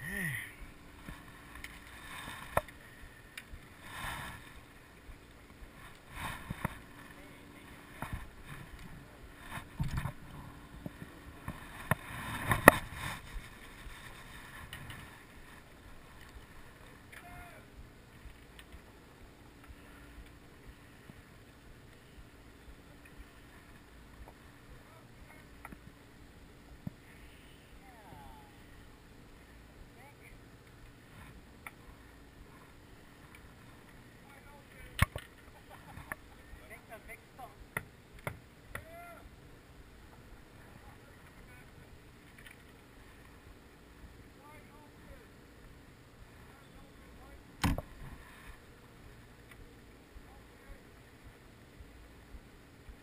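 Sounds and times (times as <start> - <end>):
wind and water rumble: 0.0 - 53.0.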